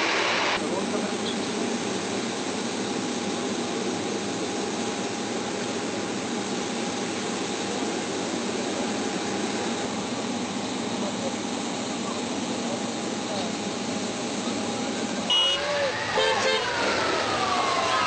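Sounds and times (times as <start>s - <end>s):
jet airliner engine rushing: 0.0s - 18.0s.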